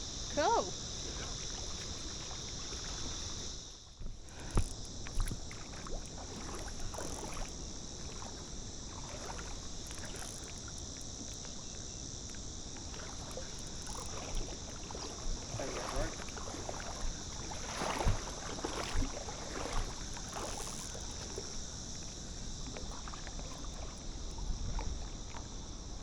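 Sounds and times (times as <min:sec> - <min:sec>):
water lapping at river's edge: 0:00.0 - 0:26.0.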